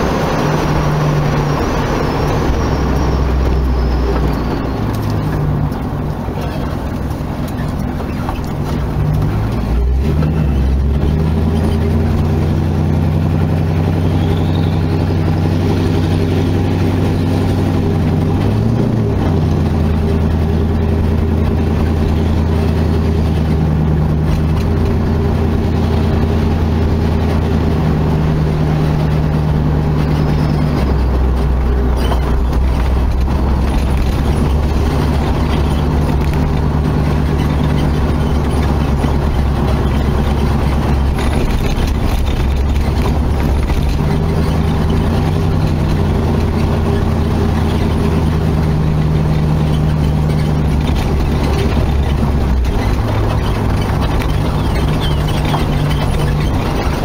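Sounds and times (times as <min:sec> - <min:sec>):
car engine cruising: 0:00.0 - 0:57.0.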